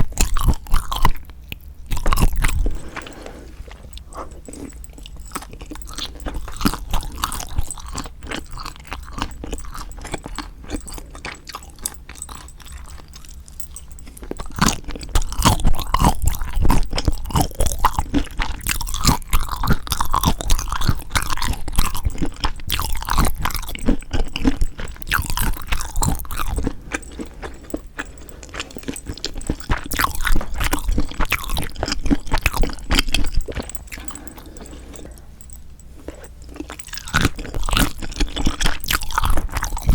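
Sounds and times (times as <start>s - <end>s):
close chewing with mouth noises: 0.0s - 39.9s.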